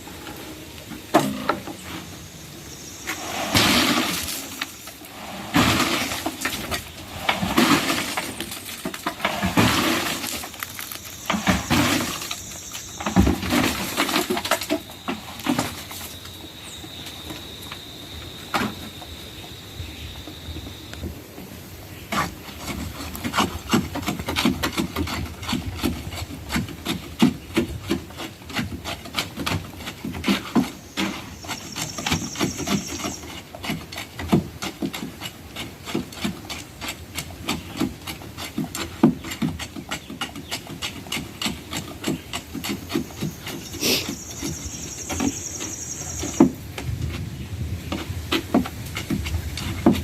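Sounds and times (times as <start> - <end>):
knocks and scraping: 0.0 - 50.0.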